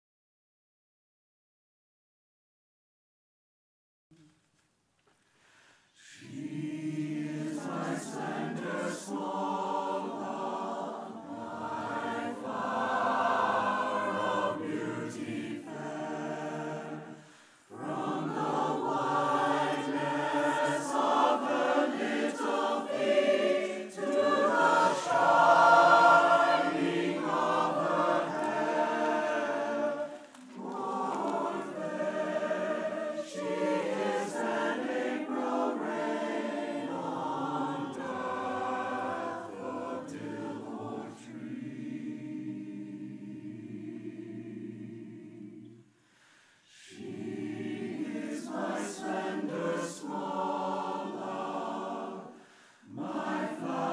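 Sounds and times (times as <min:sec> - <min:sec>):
mixed choir singing in harmony: 0:06.0 - 0:46.0, 0:46.6 - 0:53.9.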